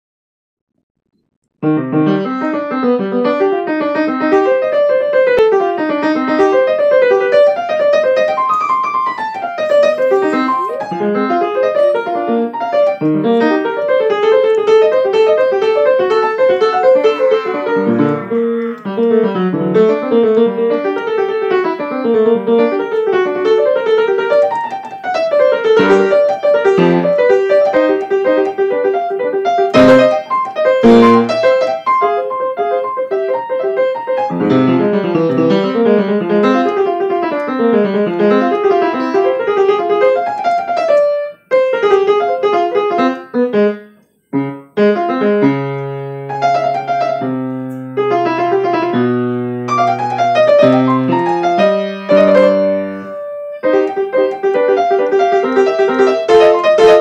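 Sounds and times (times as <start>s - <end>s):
grand piano fast notes: 1.6s - 57.0s.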